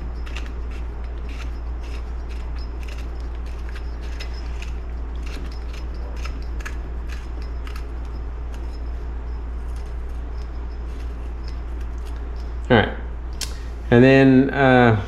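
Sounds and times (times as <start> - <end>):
metallic clicks and clinks: 0.0 - 12.7
low hum: 0.0 - 15.0.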